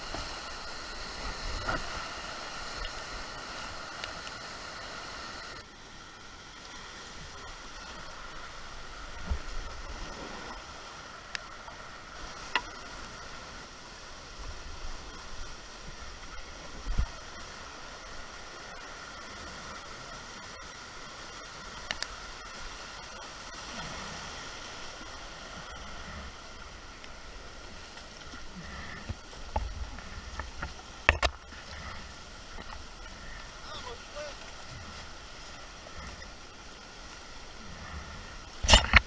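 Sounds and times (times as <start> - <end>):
rushing creek water: 0.0 - 39.0.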